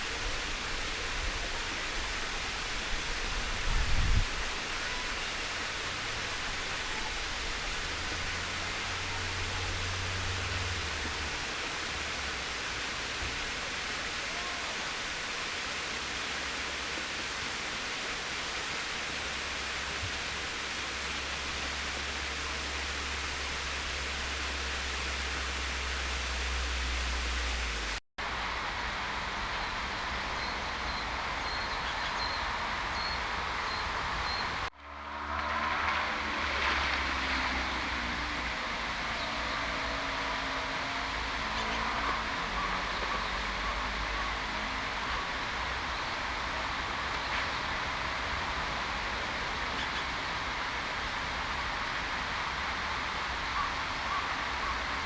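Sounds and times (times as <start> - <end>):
flowing water: 0.0 - 55.0.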